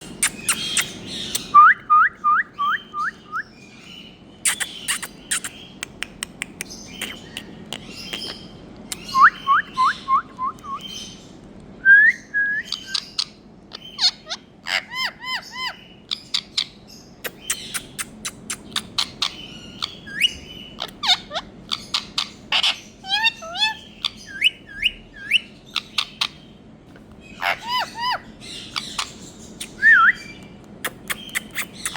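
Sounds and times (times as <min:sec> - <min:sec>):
parrot chirping and squawking: 0:00.0 - 0:01.7, 0:02.6 - 0:06.0, 0:06.6 - 0:10.1, 0:12.7 - 0:31.9.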